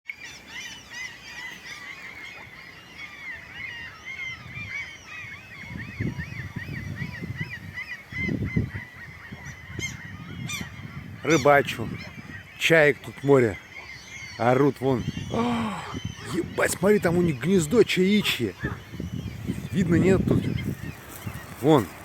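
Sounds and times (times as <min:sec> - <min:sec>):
gulls screaming: 0:00.1 - 0:22.0.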